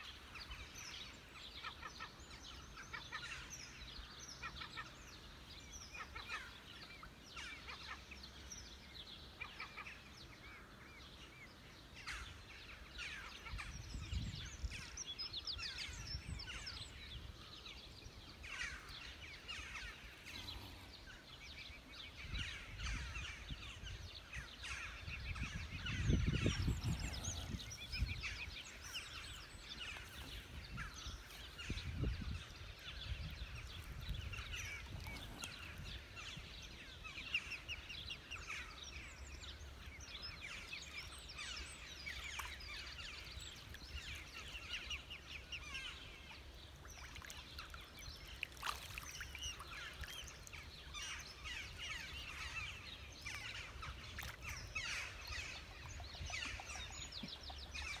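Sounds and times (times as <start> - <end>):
birds chirping and twittering: 0.0 - 58.0.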